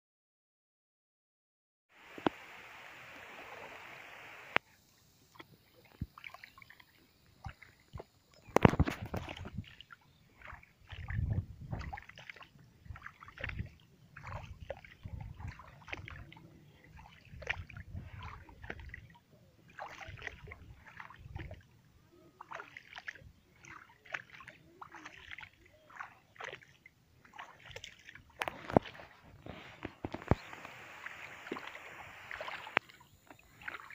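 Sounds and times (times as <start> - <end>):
water sloshing and splashing: 5.2 - 33.9.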